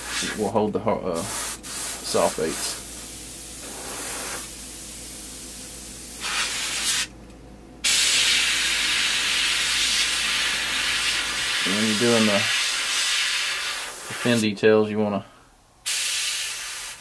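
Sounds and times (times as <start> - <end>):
airbrush hissing: 0.0 - 0.5, 1.2 - 7.1, 7.8 - 14.5, 15.8 - 17.0.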